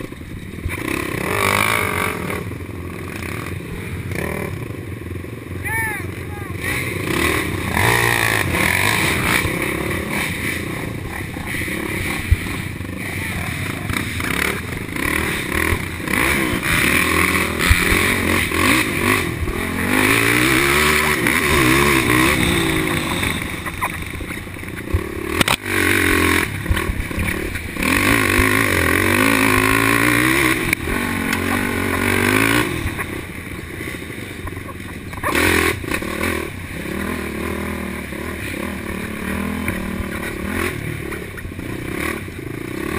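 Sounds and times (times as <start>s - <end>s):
quad engine revving hard: 0.7s - 4.6s, 5.6s - 42.9s.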